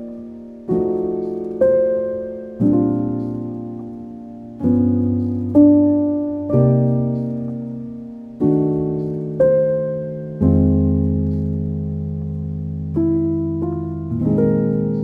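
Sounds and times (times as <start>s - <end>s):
slow soft piano chords: 0.0s - 15.0s.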